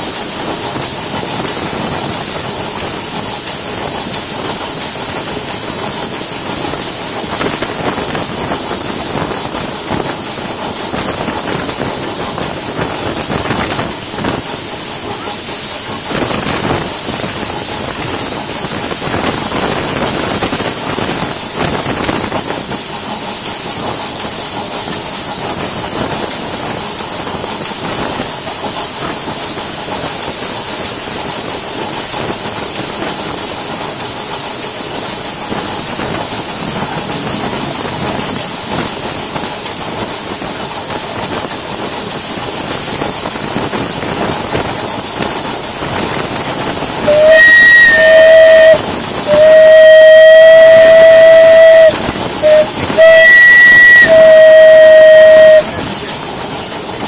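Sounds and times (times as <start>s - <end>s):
steam locomotive hissing: 0.0s - 57.0s
steam whistle blasts: 0.2s - 28.0s, 34.4s - 57.0s.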